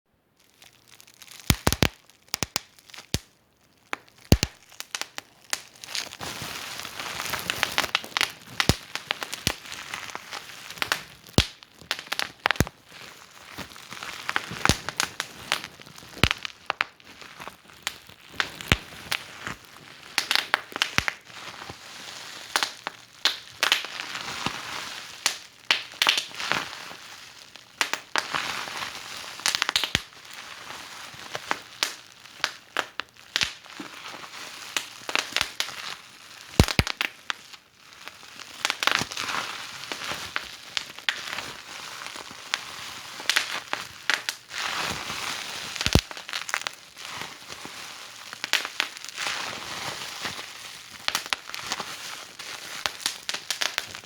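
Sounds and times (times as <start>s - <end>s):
fireplace fire crackling: 0.5s - 33.8s, 34.7s - 35.7s, 36.3s - 37.4s, 38.2s - 39.2s, 39.8s - 44.6s, 45.7s - 47.0s, 48.2s - 49.2s, 50.3s - 51.7s, 52.3s - 54.0s.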